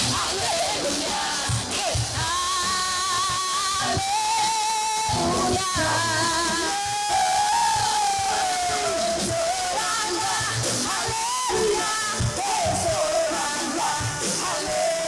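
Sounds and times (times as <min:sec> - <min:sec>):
worship band with singers: 0:00.0 - 0:15.0.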